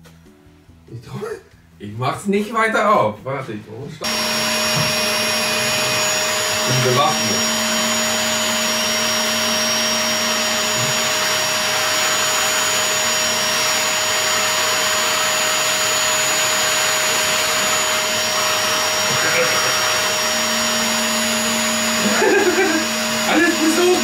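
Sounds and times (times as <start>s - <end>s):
vacuum cleaner running: 4.0s - 24.0s.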